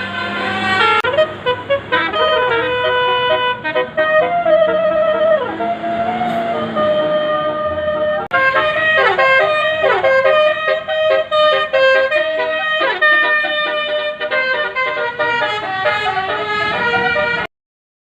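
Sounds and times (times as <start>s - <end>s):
multi-tone musical air horn: 0.0s - 17.5s.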